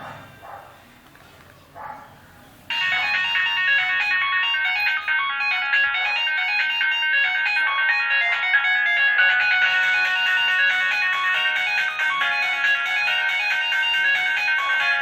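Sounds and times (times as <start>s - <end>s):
mobile phone ringtone: 2.7s - 15.0s.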